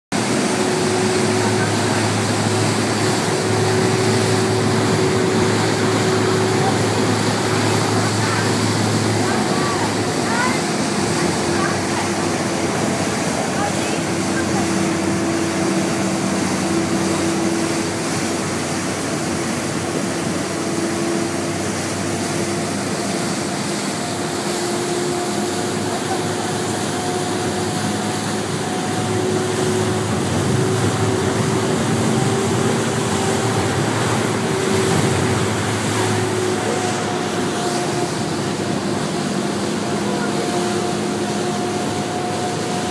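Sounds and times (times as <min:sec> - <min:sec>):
ferry machinery drone: 0:00.1 - 0:42.9
rushing water: 0:00.1 - 0:42.9
wind: 0:00.1 - 0:42.9.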